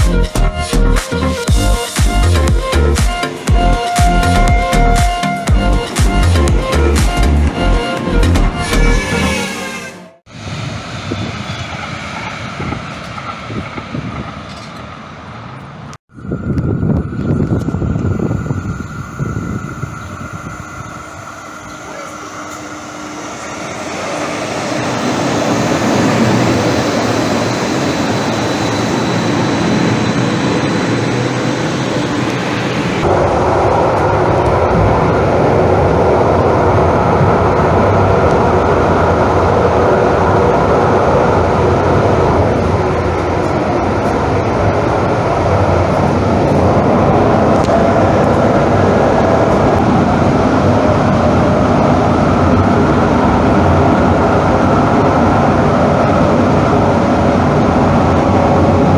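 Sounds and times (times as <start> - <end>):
transit vehicle running noise: 0.0 - 58.9.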